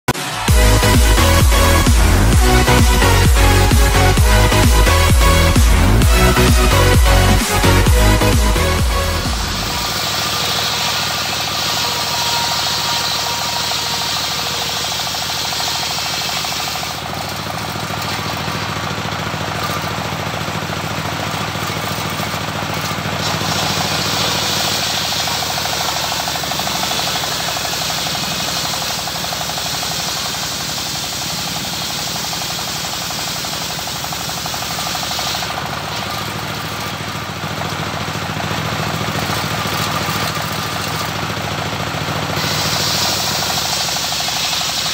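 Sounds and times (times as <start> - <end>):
diesel engine running: 0.0 - 44.9
saw blade ripping log: 0.1 - 44.9.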